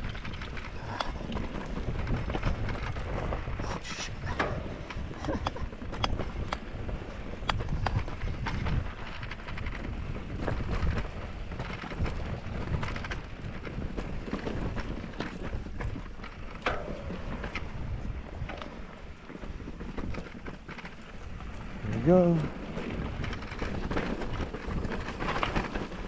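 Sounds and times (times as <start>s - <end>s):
bike clicks and rattles: 0.0s - 26.0s
bike tyres rumbling on dirt: 0.0s - 26.0s
wind buffeting microphone: 0.0s - 26.0s.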